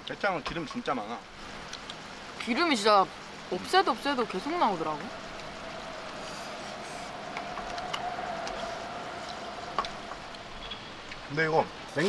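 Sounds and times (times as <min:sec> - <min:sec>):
outdoor background hiss: 0:00.0 - 0:12.0
faint hum: 0:01.2 - 0:11.9.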